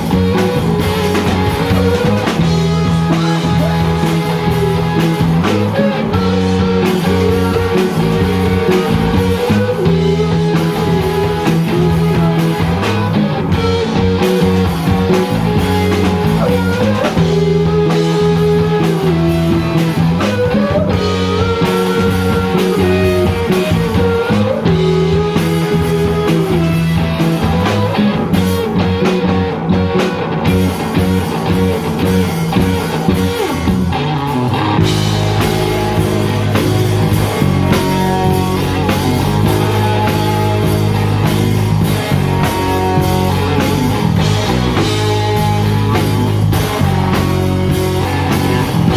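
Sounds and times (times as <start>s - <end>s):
bass guitar: 0.0s - 48.9s
drum kit: 0.0s - 48.9s
electric guitars: 0.0s - 48.9s.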